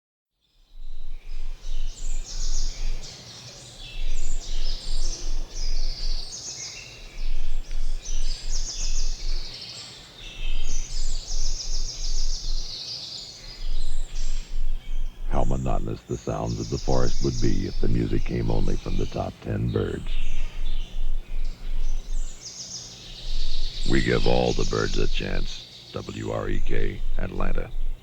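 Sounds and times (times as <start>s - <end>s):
songbird chirping: 0.5s - 28.0s
steady low hum: 0.8s - 3.1s, 3.8s - 9.6s, 10.2s - 12.8s, 13.4s - 28.0s.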